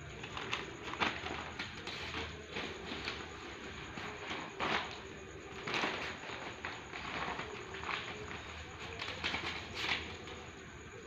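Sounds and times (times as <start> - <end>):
paper crackling and rustling: 0.0 - 10.5.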